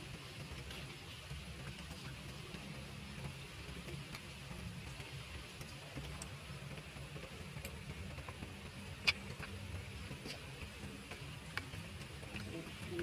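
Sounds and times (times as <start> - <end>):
faint clicks and ticks: 0.0 - 13.0.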